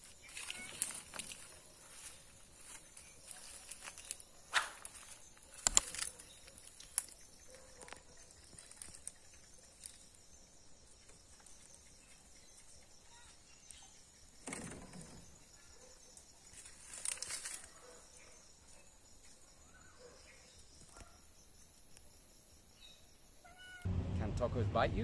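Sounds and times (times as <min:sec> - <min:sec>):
high insect chirring: 0:00.0 - 0:23.9.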